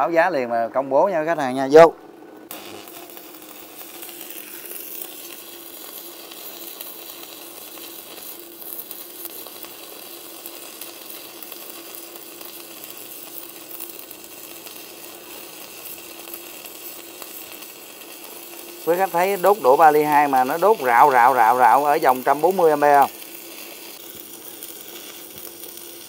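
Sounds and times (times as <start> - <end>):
welding arc crackling sizzle: 1.0 - 26.0.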